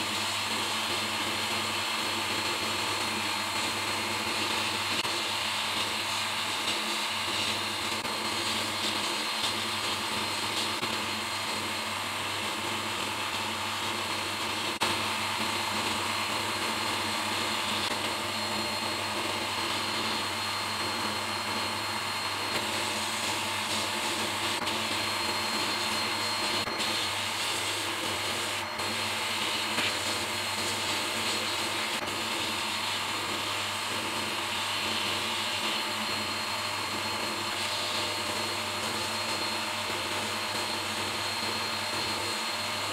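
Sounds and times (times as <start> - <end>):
sandblaster hiss of air and grit: 0.0 - 42.9.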